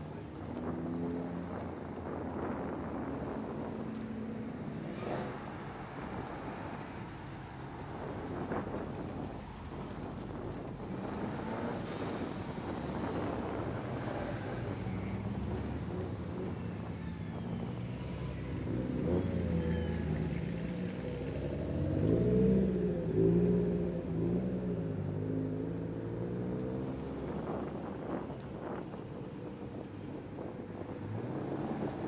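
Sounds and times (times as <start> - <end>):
cars driving slowly past: 0.0 - 32.0.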